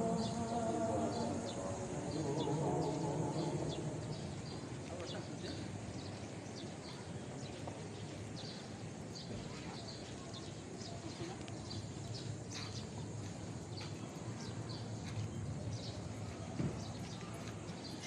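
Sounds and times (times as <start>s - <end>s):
low background noise: 0.0s - 18.0s
small birds chirping: 0.2s - 18.0s.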